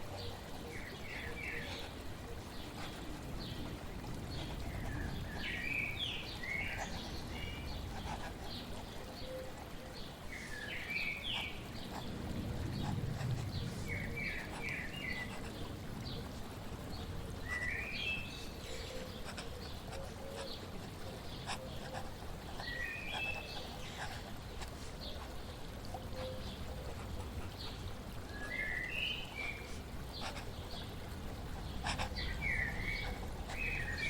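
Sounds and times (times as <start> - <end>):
birds chirping: 0.0 - 34.0
flowing water: 0.0 - 34.0.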